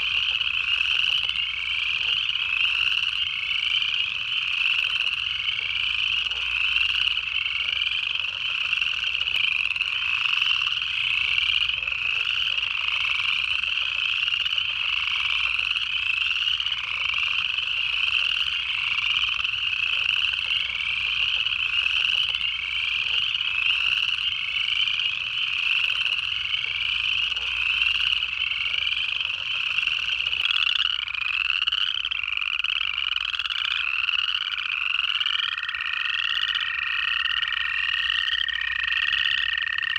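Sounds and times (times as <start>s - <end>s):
frogs trilling in chorus: 0.0s - 39.9s.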